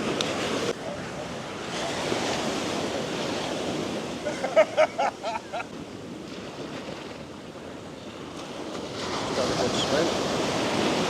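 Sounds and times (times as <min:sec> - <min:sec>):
sea surf washing on beach: 0:00.0 - 0:11.0.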